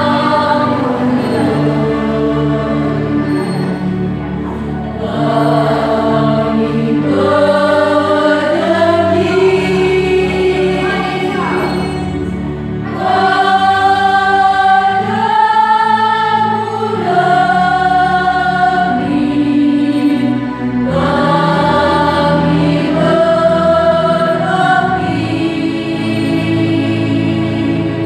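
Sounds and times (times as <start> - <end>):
choir singing long notes: 0.0 - 28.0.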